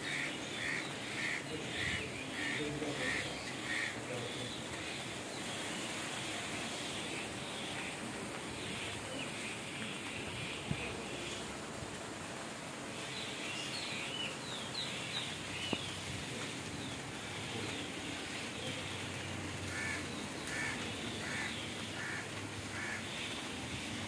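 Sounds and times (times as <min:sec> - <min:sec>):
birds chirping: 0:00.0 - 0:24.0
wind through leaves: 0:00.0 - 0:24.0.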